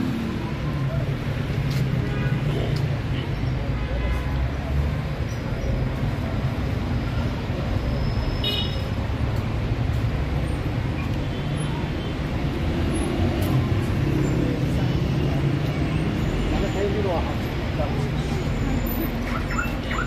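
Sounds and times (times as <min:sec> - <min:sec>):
cars and motorbikes driving past: 0:00.0 - 0:20.0
low rumble of road noise: 0:00.0 - 0:20.0.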